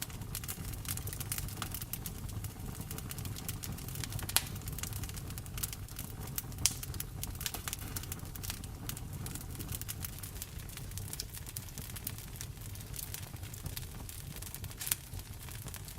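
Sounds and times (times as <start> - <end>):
loud fire pops: 0.0 - 15.9
wood fire crackling: 0.0 - 15.9.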